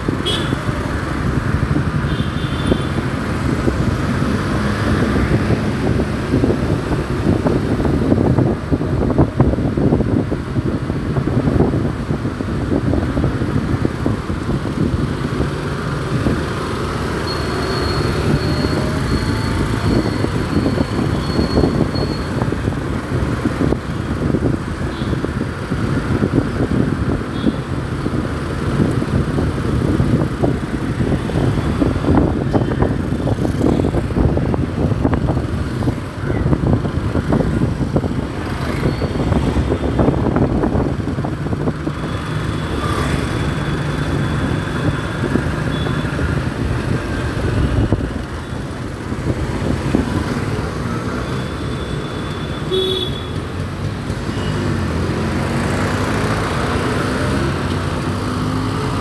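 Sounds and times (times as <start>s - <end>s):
city traffic: 0.0s - 59.0s.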